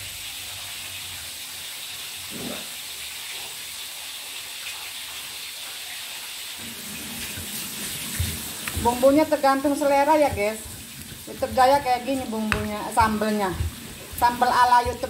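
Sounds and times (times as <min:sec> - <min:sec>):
cooking hiss: 0:00.0 - 0:15.0.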